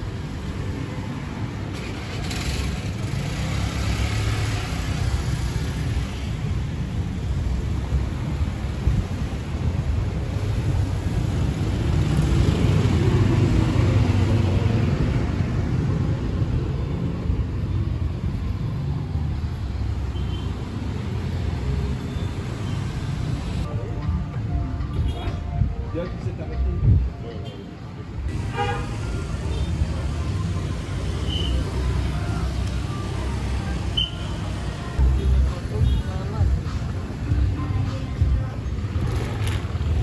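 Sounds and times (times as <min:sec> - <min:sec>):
street traffic rumble: 0:00.0 - 0:40.0.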